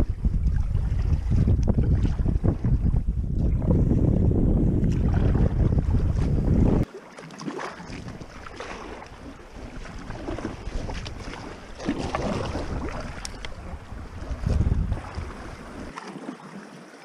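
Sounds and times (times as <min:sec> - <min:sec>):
paddle splashing in water: 0:00.0 - 0:03.9, 0:04.7 - 0:17.0
wind rumbling on microphone: 0:00.0 - 0:06.9, 0:07.8 - 0:16.0.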